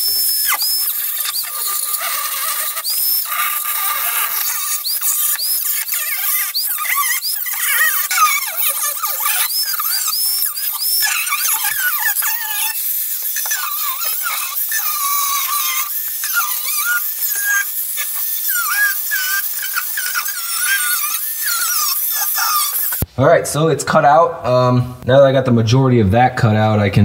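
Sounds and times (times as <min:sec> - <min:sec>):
grinder cutting metal: 0:00.0 - 0:23.1.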